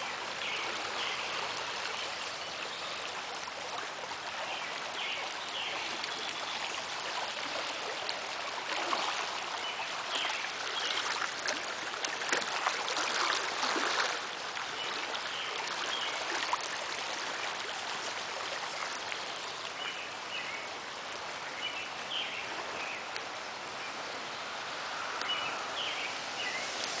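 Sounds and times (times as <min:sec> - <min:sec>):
rushing floodwater: 0:00.0 - 0:27.0.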